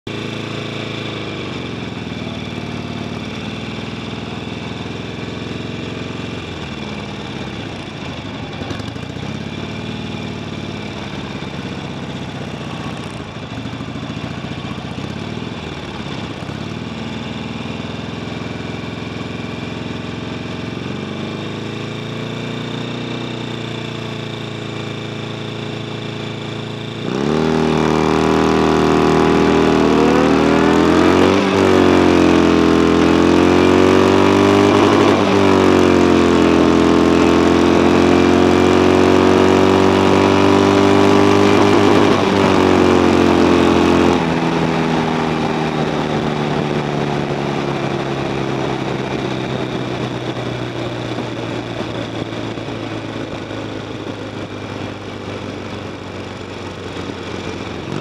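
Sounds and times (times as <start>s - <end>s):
motorcycle accelerating hard: 0.1s - 58.0s
motorcycle engine revving: 0.1s - 58.0s.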